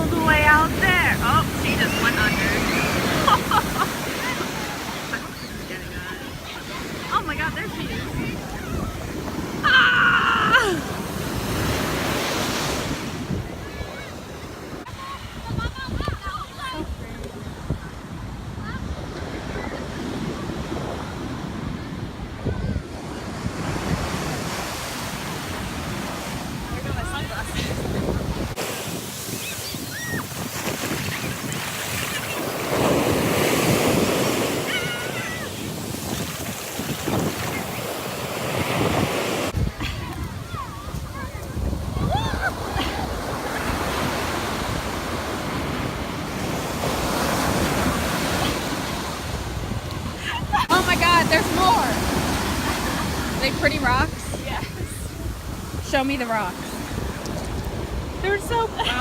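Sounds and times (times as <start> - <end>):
ocean surf breaking: 0.0 - 59.0
wind buffeting microphone: 0.0 - 59.0.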